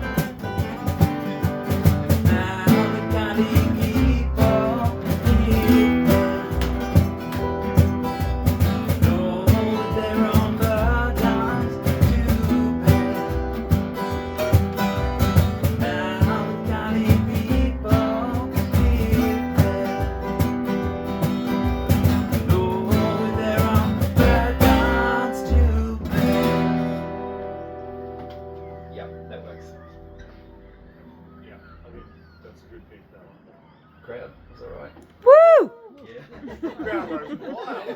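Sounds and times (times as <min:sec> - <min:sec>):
strummed acoustic guitar song: 0:00.0 - 0:30.4.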